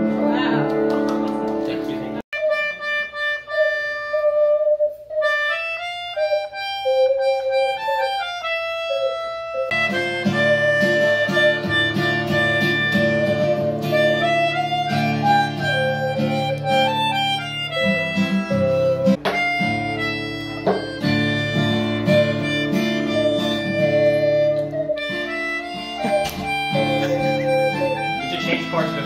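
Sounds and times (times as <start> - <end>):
acoustic guitar strumming: 0.0 - 29.0
melodica and harmonica melody: 2.3 - 29.0.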